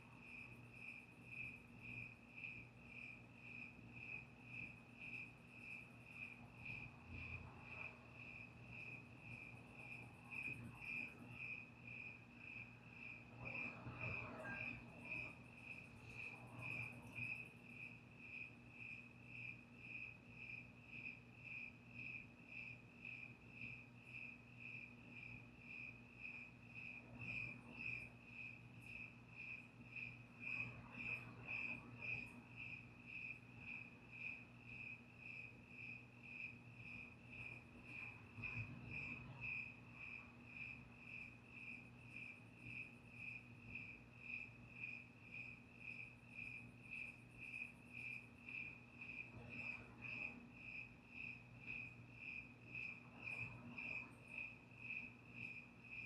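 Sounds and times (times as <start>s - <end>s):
crickets chirping: 0.0s - 56.0s
faint low hum: 0.0s - 56.0s.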